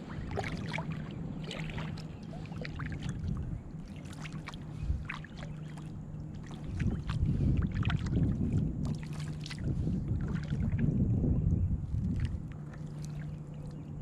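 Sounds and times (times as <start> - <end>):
paddle splashing water: 0.0 - 11.0, 11.8 - 14.0
steady low rumble: 0.0 - 14.0.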